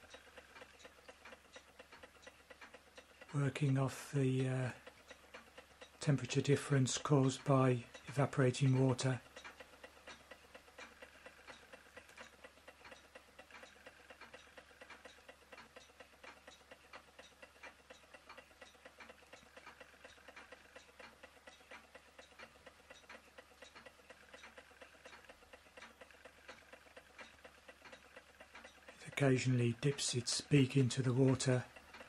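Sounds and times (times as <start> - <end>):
fast regular ticking of engines: 0.0 - 32.0.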